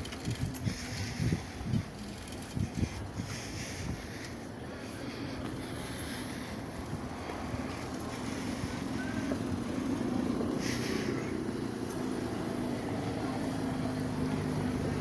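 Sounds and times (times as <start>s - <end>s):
motor engine humming: 0.0s - 15.0s.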